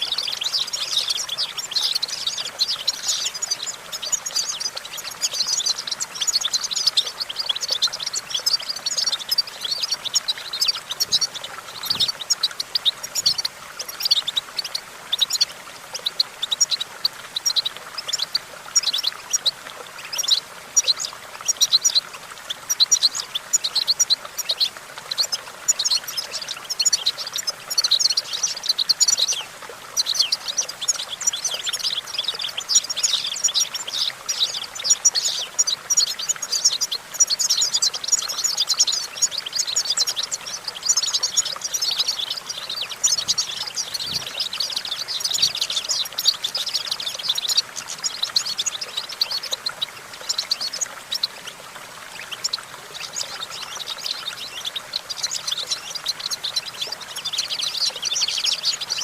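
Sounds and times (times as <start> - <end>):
goldfinch twittering song: 0.0 - 59.0.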